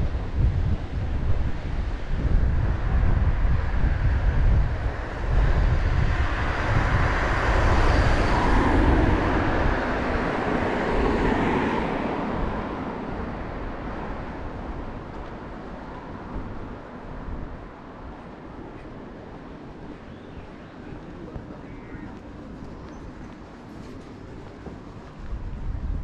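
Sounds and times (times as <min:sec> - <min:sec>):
passing vehicle: 0:00.0 - 0:26.0
wind buffeting microphone: 0:00.0 - 0:26.0.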